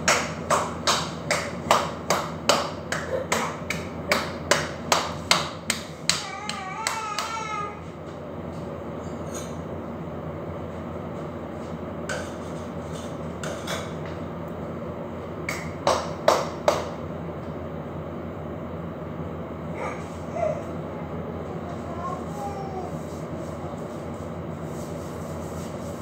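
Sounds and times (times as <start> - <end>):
low kitchen hum: 0.0 - 26.0.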